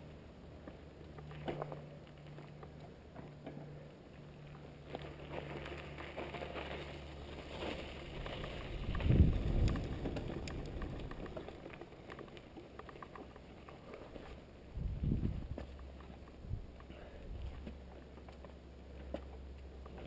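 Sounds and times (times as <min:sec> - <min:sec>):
bike tyres and rattling parts: 0:00.0 - 0:20.0.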